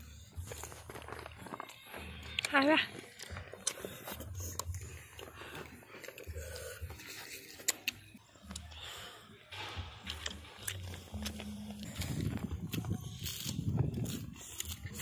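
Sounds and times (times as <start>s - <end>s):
chewing crunchy fried food: 0.0s - 15.0s.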